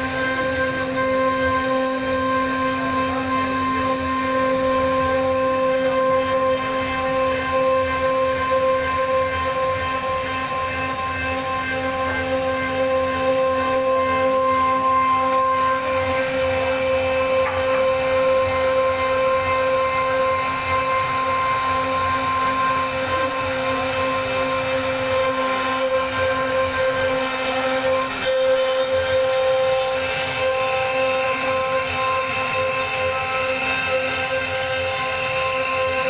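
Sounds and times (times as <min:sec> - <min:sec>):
router spindle whine: 0:00.0 - 0:36.0.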